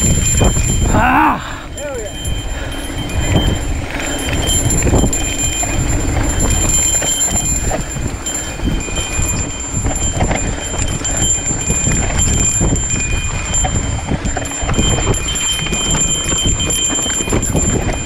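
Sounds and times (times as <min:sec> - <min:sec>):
bike frame rattling and knocking: 0:00.0 - 0:18.0
low rumble of tyres on dirt: 0:00.0 - 0:18.0.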